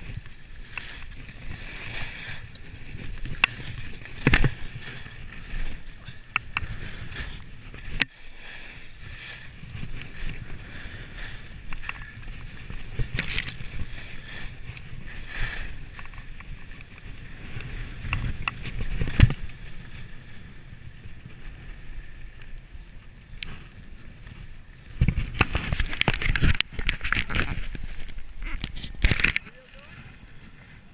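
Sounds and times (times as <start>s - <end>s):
skis scraping over snow: 0.0s - 30.9s.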